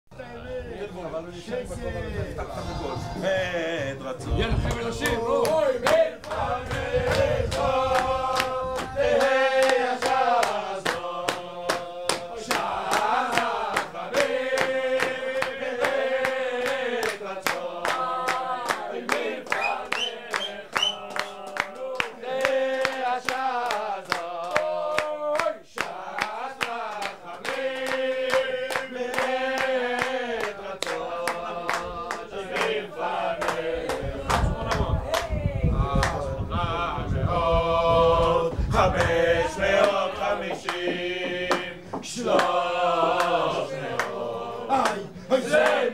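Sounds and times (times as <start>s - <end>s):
men singing together: 0.3s - 45.9s.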